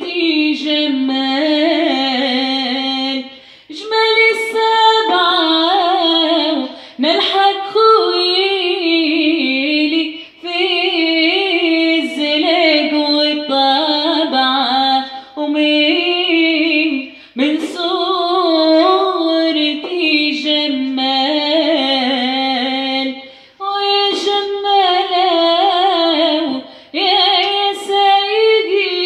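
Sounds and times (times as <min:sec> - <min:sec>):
woman singing unaccompanied: 0:00.0 - 0:29.0.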